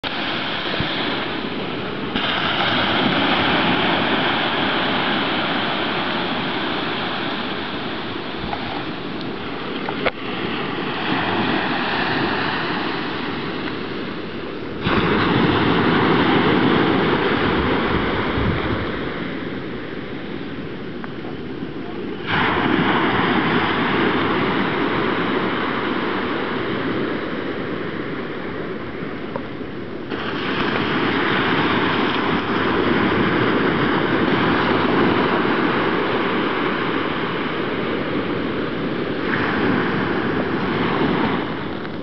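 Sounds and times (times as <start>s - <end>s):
steady rushing noise: 0.0s - 42.0s.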